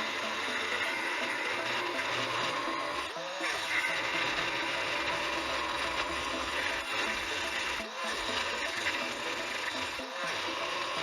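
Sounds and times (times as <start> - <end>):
harsh metal cutting: 0.0 - 11.0.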